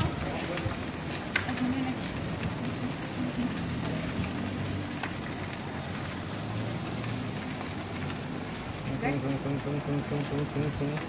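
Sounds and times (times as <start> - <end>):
faint crackles: 0.0 - 11.0
sausages sizzling on a grill: 0.0 - 11.0.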